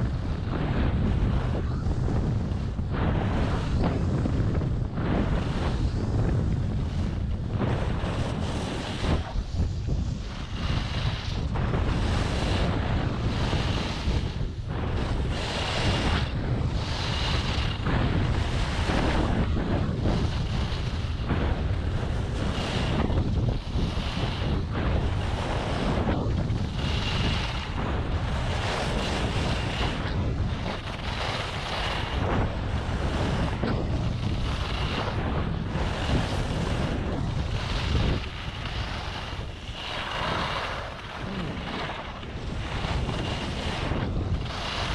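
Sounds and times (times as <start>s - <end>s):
skis scraping snow: 0.0s - 44.9s
wind buffeting microphone: 0.0s - 44.9s.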